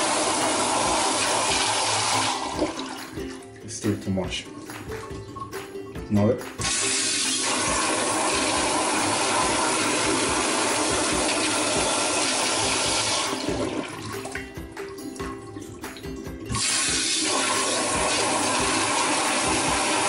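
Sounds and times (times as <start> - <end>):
toilet flushing: 0.0 - 3.5, 6.6 - 20.0.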